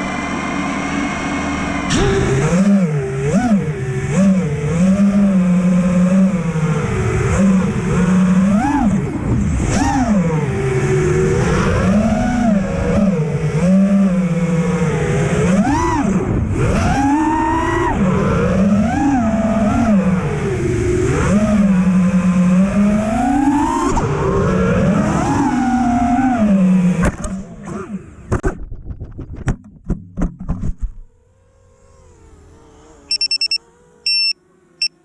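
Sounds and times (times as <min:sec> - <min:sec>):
quadcopter motors whining: 0:00.0 - 0:28.3, 0:31.1 - 0:35.0.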